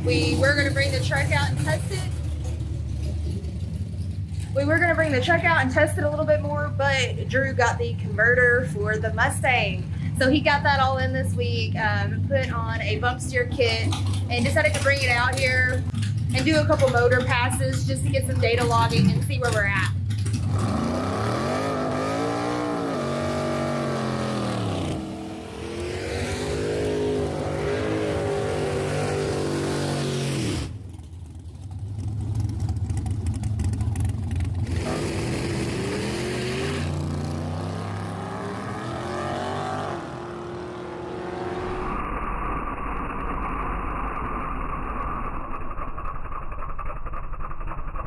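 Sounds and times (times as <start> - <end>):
drag car engine revving: 0.0 - 48.0.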